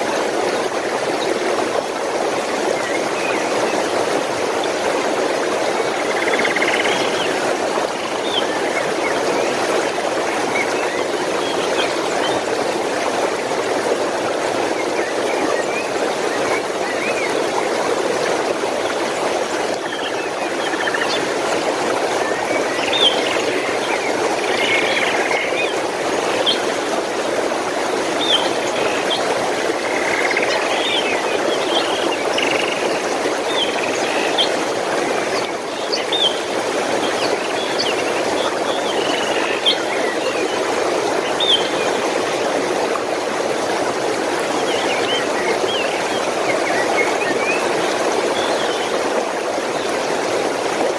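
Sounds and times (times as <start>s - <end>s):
stream water rushing: 0.0s - 50.9s.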